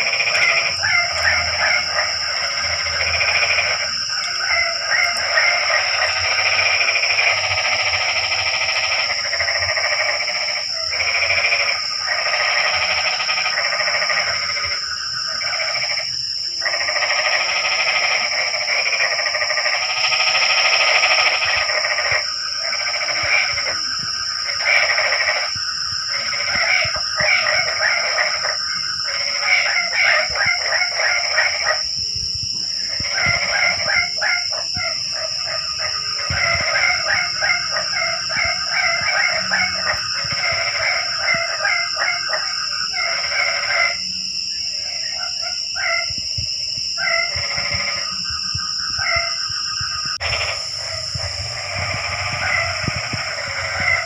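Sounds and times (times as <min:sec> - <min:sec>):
chorus of frogs calling: 0:00.0 - 0:54.0
high-pitched whine: 0:00.0 - 0:54.0.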